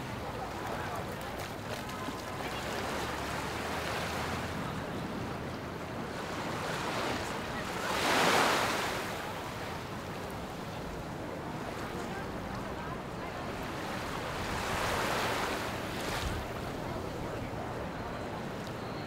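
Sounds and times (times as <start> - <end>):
ocean waves on sandy beach: 0.0 - 18.8.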